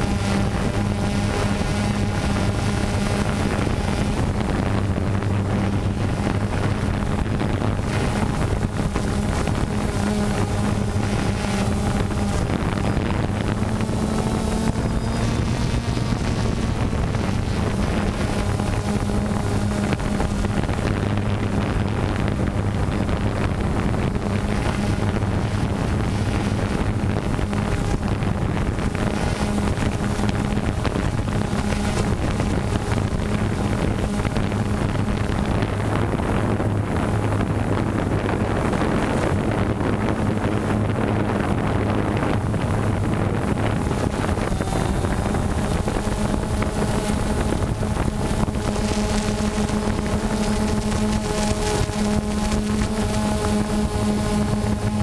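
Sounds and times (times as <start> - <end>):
drone propellers buzzing: 0.0 - 55.0
wind noise on microphone: 0.0 - 55.0.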